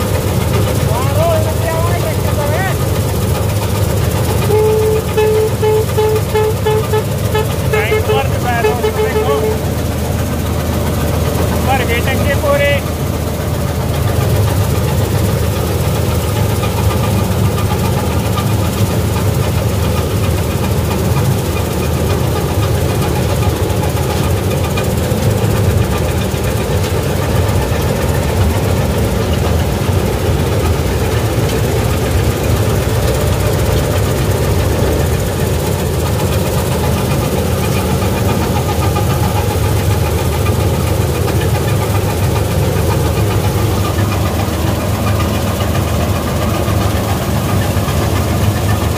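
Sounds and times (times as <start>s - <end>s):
combine harvester engine drone: 0.0s - 48.9s
threshing machinery running: 0.0s - 48.9s.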